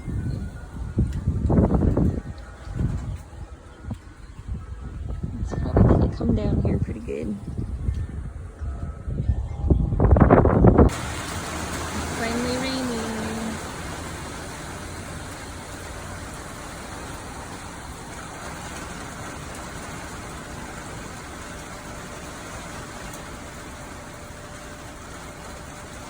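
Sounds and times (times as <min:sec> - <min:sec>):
steady rain falling: 0:00.0 - 0:05.9, 0:10.9 - 0:26.0.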